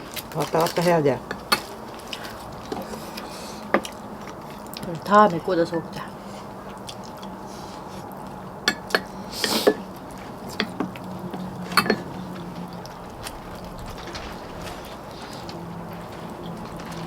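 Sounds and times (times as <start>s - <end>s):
utensils clinking on bowls: 0.0s - 17.0s.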